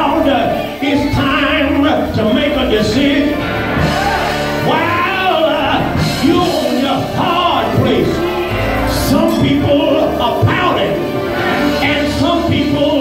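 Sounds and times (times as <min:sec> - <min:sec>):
gospel choir singing: 0:00.0 - 0:13.0
instrumental backing music: 0:00.0 - 0:13.0.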